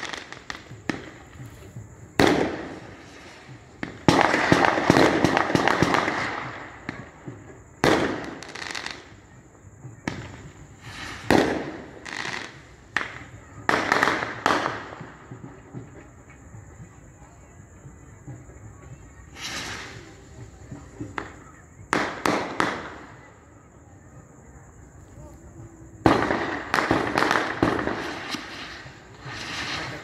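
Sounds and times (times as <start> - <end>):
fireworks bangs: 0.0 - 9.2, 9.8 - 30.0
fireworks crackling: 0.0 - 30.0.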